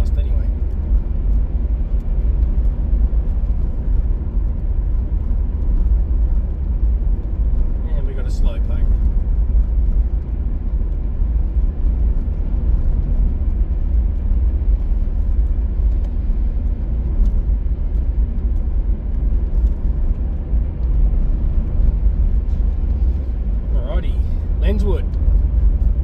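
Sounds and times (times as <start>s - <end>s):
car road rumble: 0.0s - 26.0s.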